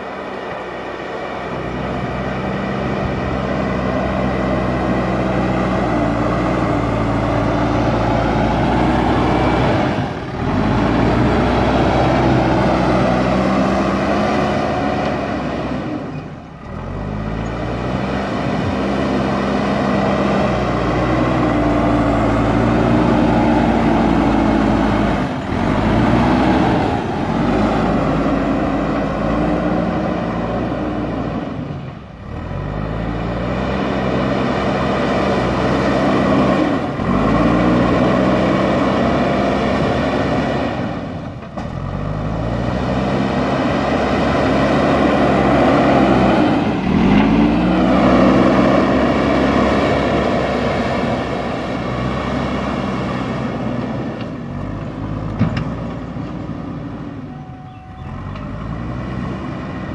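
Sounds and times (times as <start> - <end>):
diesel engine working hard: 0.0 - 59.9.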